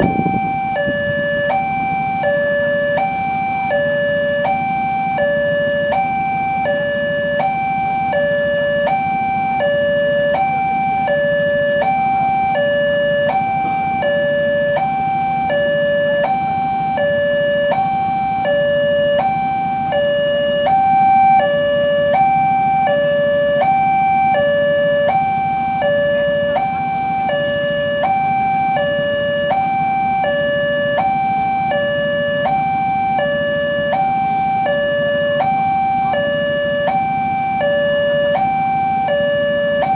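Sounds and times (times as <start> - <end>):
two-tone warning alarm: 0.0 - 39.9.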